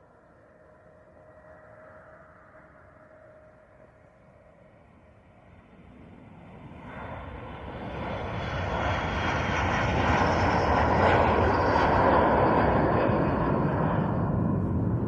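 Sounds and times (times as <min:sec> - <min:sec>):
airplane engines: 0:00.0 - 0:15.0.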